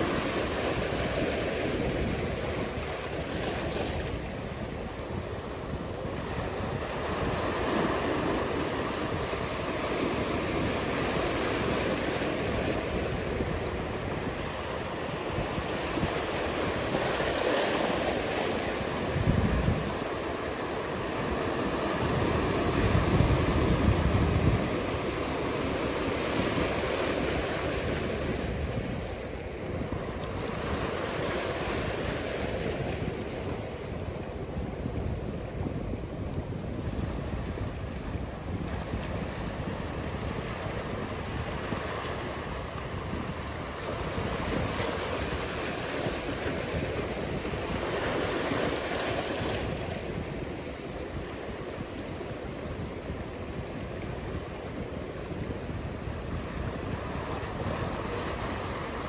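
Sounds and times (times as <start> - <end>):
waves breaking: 0.0 - 59.0
wind: 0.0 - 59.0.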